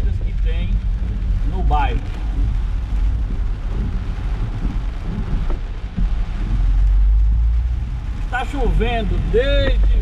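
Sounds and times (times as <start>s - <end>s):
car rumbling on wet road: 0.0s - 10.0s
rain and tyre water hiss: 0.0s - 10.0s.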